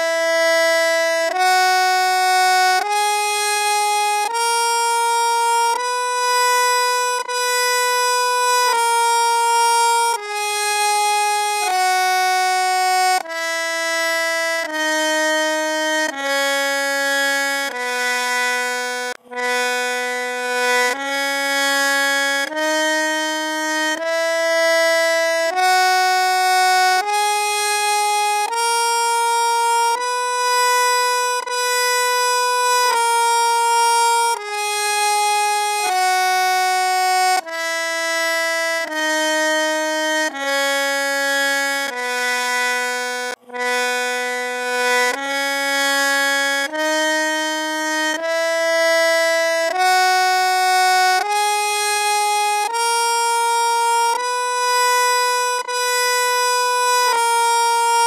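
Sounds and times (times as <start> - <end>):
harmonium playing a scale: 0.0 - 58.0.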